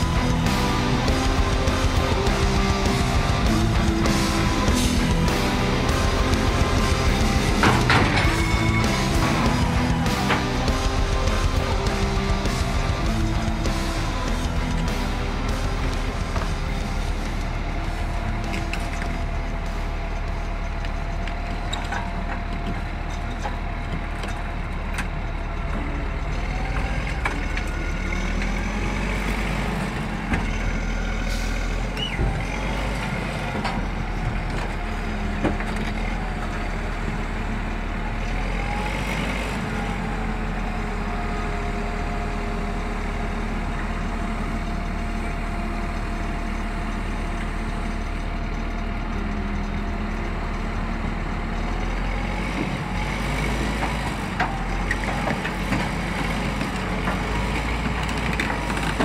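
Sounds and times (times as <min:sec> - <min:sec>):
heavy diesel engines under load: 0:00.0 - 0:59.0.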